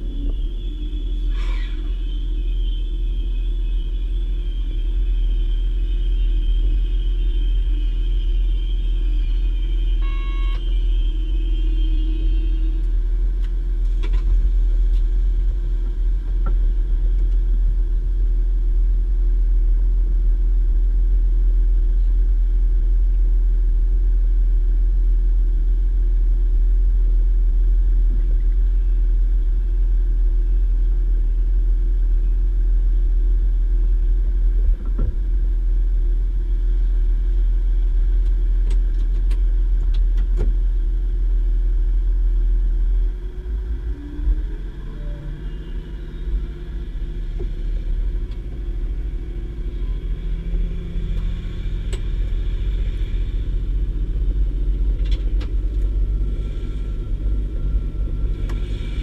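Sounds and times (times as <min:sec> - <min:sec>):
railcar engine rumble: 0:00.0 - 0:59.0
steady hum: 0:00.0 - 0:59.0.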